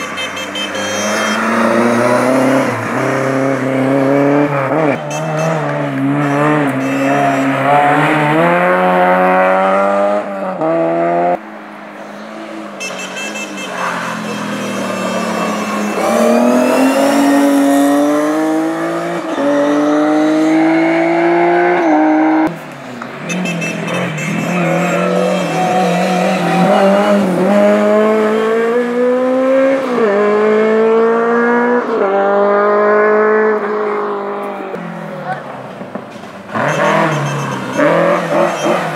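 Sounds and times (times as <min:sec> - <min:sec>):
race car engines revving: 0:00.0 - 0:38.9.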